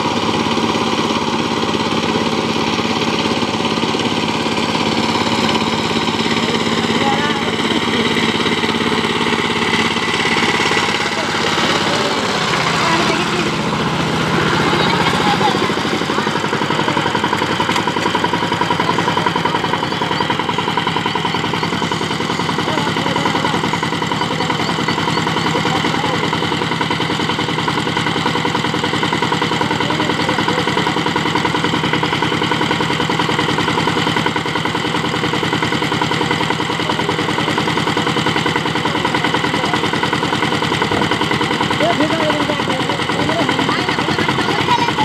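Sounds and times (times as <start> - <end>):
diesel engine chugging: 0.0 - 45.0.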